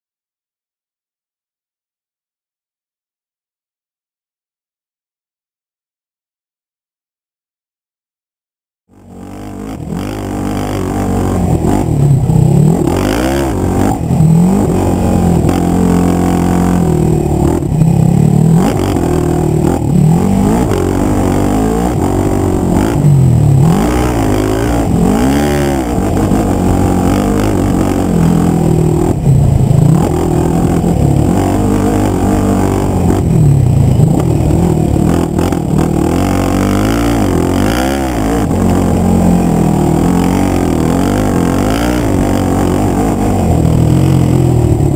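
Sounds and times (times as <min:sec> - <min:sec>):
quad bike engine revving: 0:08.9 - 0:44.9.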